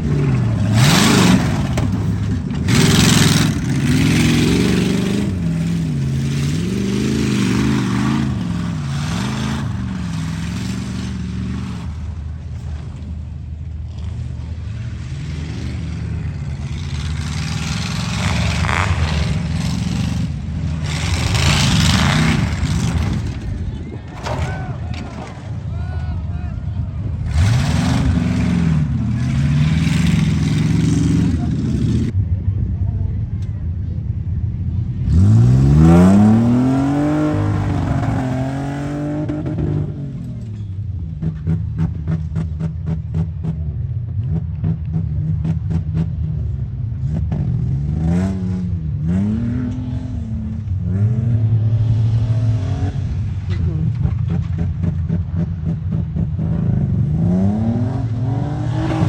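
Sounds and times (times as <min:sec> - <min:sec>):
truck engine revving: 0:00.0 - 0:32.2, 0:34.0 - 0:59.0.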